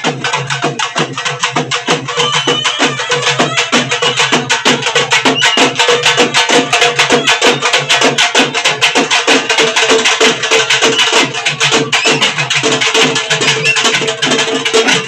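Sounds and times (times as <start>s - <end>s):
hand drums beating fast: 0.0s - 15.0s.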